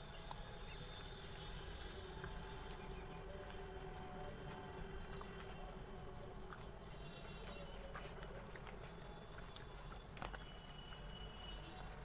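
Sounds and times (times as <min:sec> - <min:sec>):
faint steady hum: 0:00.0 - 0:12.0
soft chewing: 0:00.0 - 0:12.0.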